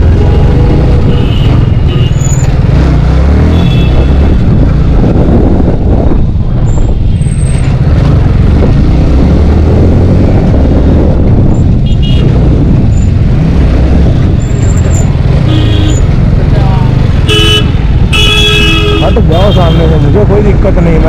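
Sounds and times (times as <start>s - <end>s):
wind rumble on microphone: 0.0s - 17.1s
motorcycle engine at low speed: 0.0s - 19.0s.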